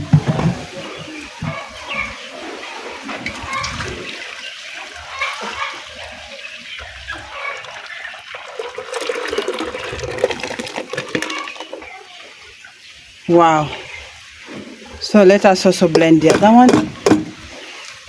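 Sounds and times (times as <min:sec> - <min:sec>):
liquid sloshing and splashing: 0:00.0 - 0:18.0.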